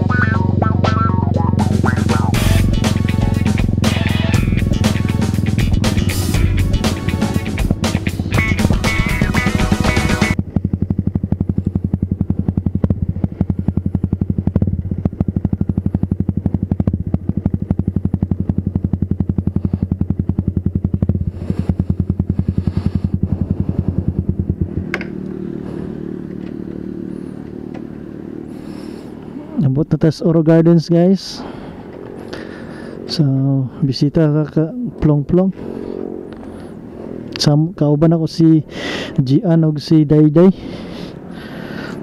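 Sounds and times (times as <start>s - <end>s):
motorcycle engine running: 0.0s - 37.6s, 39.8s - 42.0s.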